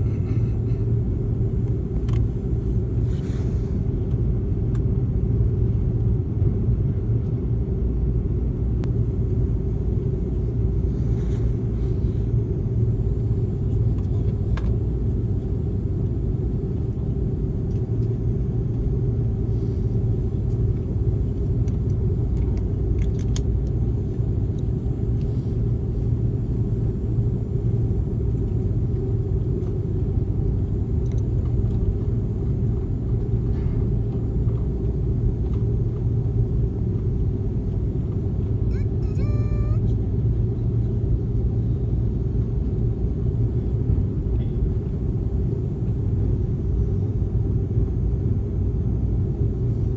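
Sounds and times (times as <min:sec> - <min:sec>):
airliner cabin rumble: 0:00.0 - 0:49.9.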